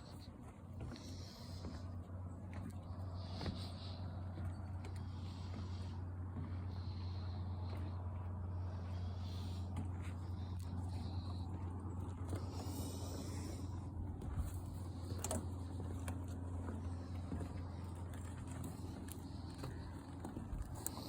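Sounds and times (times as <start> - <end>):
rasping breathing: 0.0 - 21.0
steady low hum: 0.0 - 21.0.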